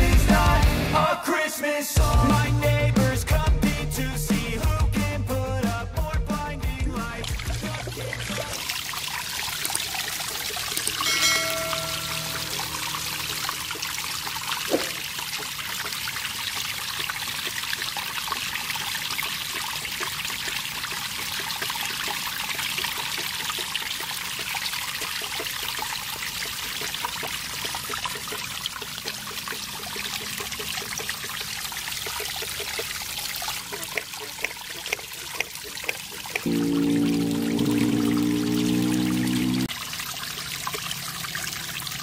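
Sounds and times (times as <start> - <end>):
water pouring and splashing: 6.6 - 42.0.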